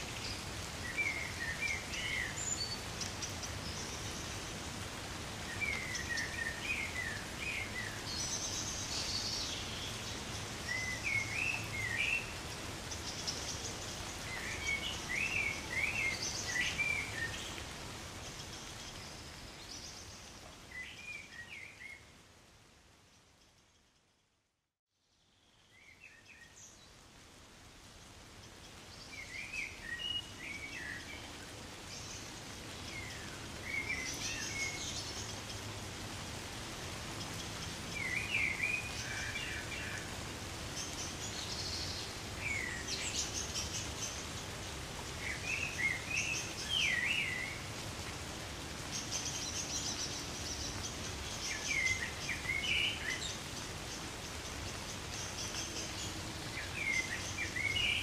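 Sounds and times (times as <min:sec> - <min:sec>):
songbird chirping: 0:00.0 - 0:24.2, 0:25.0 - 0:58.0.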